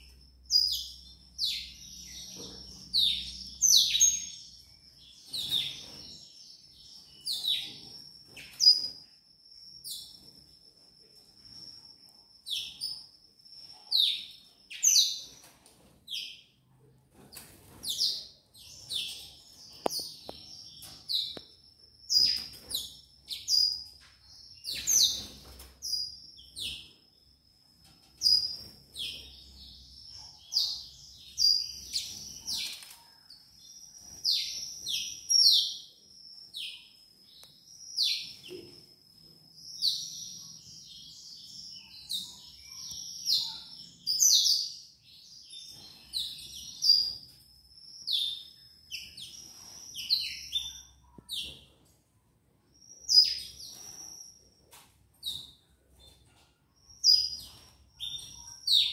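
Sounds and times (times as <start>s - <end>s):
canaries chirping: 0.0s - 51.9s, 52.7s - 58.9s.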